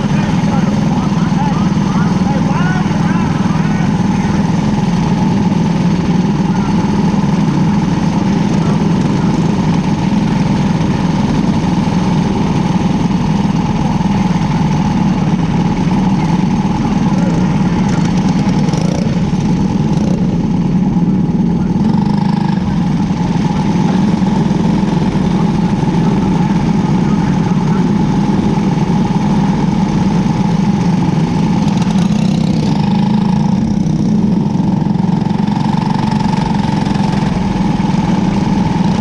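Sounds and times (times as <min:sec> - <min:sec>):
kart engine idling: 0:00.0 - 0:39.0.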